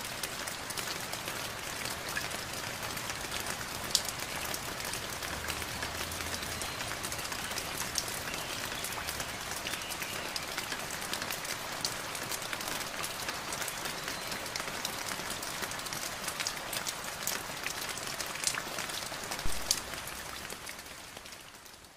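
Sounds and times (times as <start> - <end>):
raindrops ticking on surfaces: 0.0 - 21.9
steady rain falling: 0.0 - 21.9.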